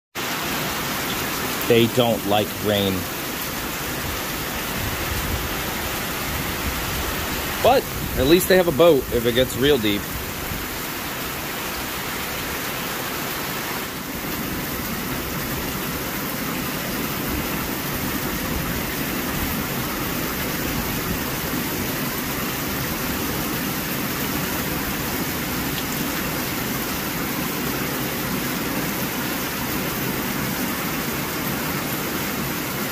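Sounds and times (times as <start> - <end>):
heavy rain on metal roof: 0.2 - 32.9.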